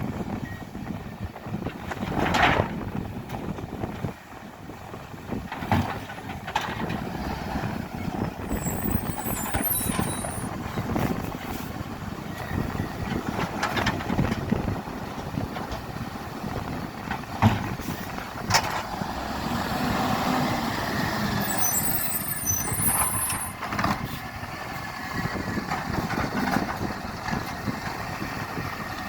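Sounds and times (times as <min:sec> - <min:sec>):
garbage truck engine rumbling: 0:00.0 - 0:29.0.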